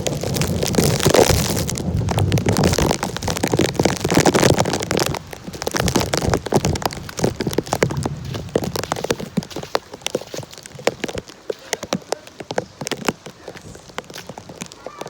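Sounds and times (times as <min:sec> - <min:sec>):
heavy rain on hard surface: 0:00.0 - 0:15.0.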